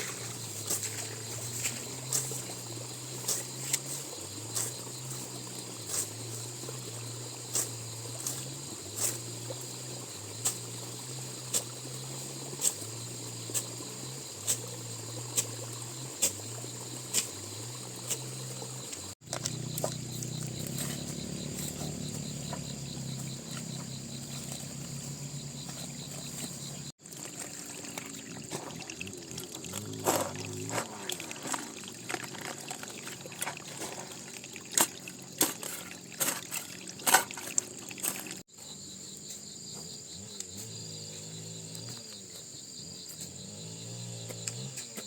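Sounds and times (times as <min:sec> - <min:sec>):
high insect drone: 0:00.0 - 0:32.8, 0:37.6 - 0:45.0.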